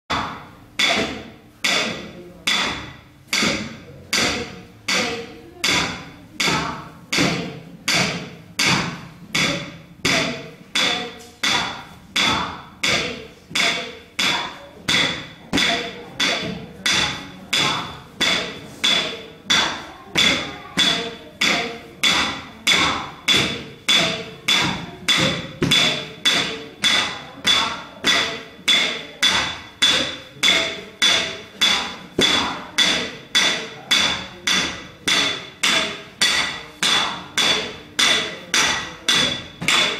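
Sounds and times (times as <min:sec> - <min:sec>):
sharp rhythmic knocks: 0:00.1 - 0:39.9.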